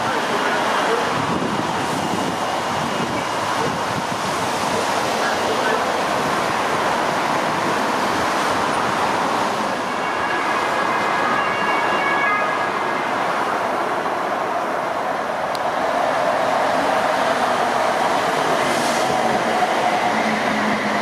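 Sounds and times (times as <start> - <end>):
train rushing and rolling: 0.0 - 21.0.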